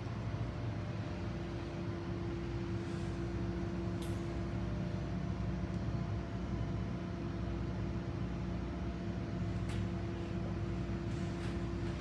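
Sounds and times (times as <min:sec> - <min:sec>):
electrical machine hum: 0:00.0 - 0:12.0.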